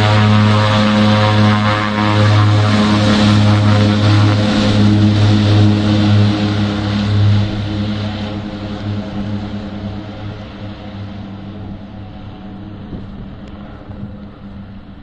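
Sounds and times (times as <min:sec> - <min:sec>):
turboprop airplane propeller drone: 0:00.0 - 0:15.0.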